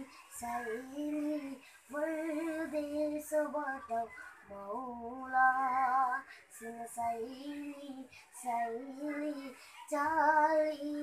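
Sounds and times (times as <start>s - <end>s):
boy singing: 0.0s - 11.0s.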